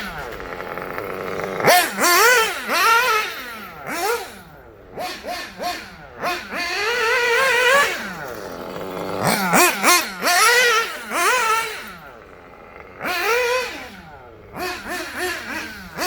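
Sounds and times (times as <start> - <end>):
small nitro engine revving: 0.0 - 16.0.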